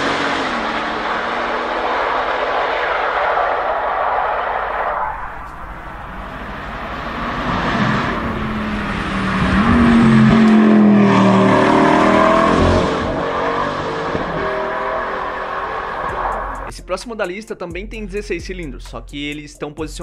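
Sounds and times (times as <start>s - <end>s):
sports car engines driving past: 0.0s - 16.7s.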